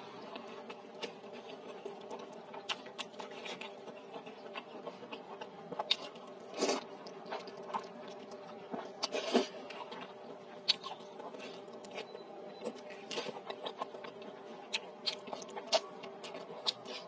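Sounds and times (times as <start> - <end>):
faint steady hum: 0.0 - 17.0
wet chewing: 0.1 - 17.0.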